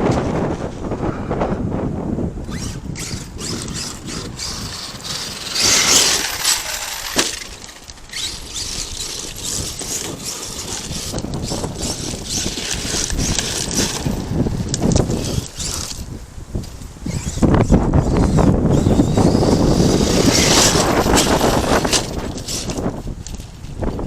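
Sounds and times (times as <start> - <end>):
rc truck driving over gravel: 2.4 - 24.0.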